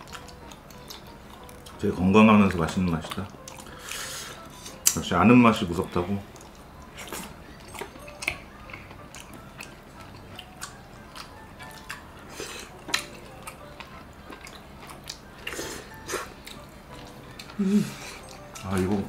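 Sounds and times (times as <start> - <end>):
chewing: 0.0 - 1.8, 2.4 - 5.0, 6.2 - 19.0.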